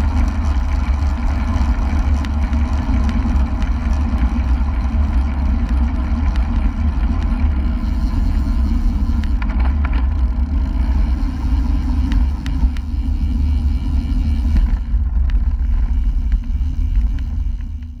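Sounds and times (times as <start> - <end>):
bicycle tyre noise: 0.0 - 18.0.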